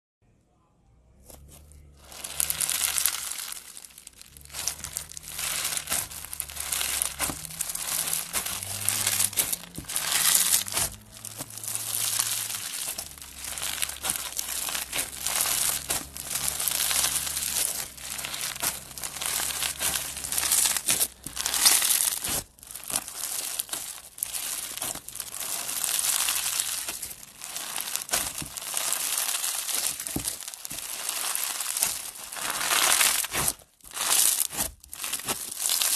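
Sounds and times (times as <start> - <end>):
crunchy slime squeezed by hand: 2.0 - 35.9.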